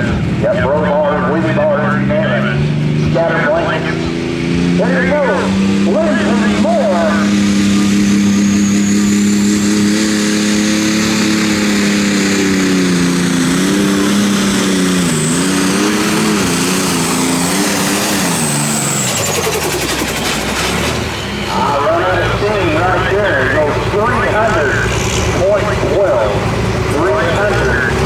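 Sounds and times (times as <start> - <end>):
high whine: 0.0 - 28.0
tractor diesel engine straining: 0.0 - 28.0.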